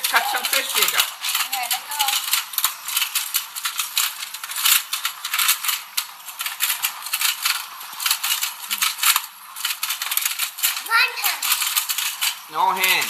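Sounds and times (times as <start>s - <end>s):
toy mechanism clicking and rattling: 0.0s - 13.0s.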